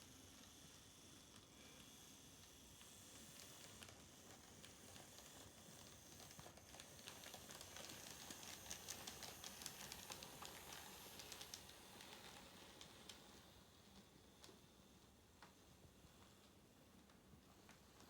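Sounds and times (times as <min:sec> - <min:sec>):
background hiss: 0:00.0 - 0:18.0
faint irregular clicking: 0:00.3 - 0:18.0.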